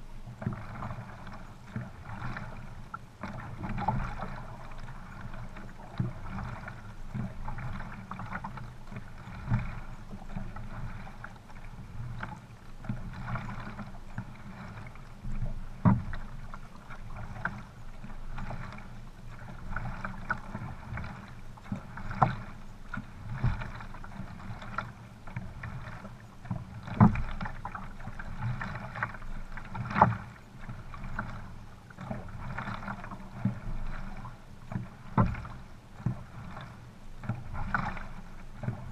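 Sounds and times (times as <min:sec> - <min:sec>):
water lapping against canoe hull: 0:00.0 - 0:38.9
water slaps and paddle strokes: 0:00.0 - 0:38.9.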